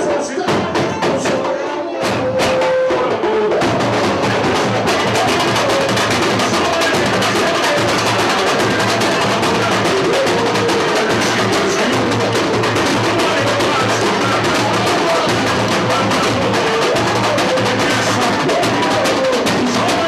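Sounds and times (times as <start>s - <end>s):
samba percussion: 0.0s - 20.0s.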